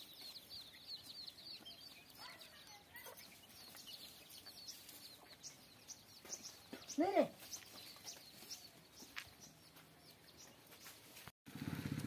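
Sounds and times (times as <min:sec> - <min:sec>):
high repeated bird chirps: 0:00.0 - 0:11.0.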